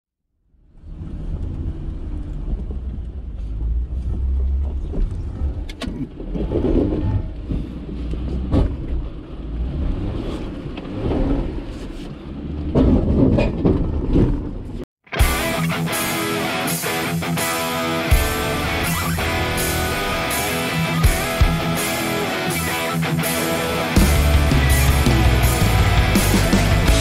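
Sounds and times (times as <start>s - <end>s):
vehicle engine droning: 0.6s - 27.0s.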